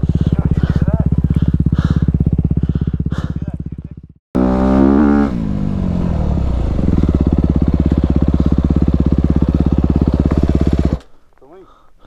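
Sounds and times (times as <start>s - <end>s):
dirt bike engine idling: 0.0s - 11.6s.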